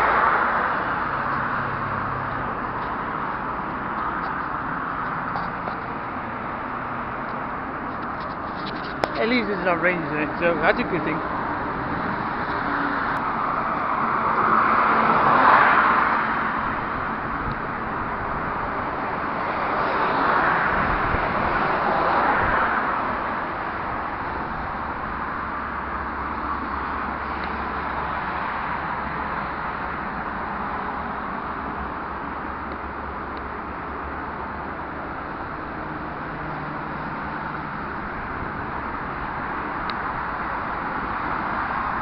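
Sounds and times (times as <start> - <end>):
steady traffic noise: 0.0 - 42.0
vehicles passing: 0.0 - 42.0.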